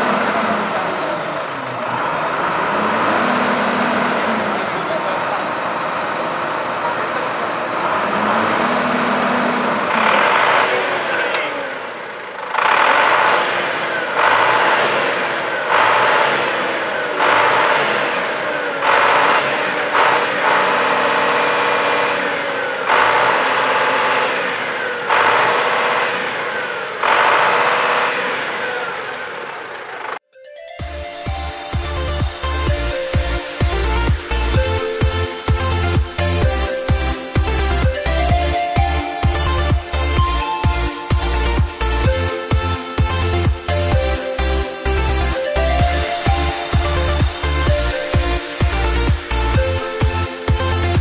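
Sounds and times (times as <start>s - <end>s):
farm machinery engines revving: 0.0s - 51.0s.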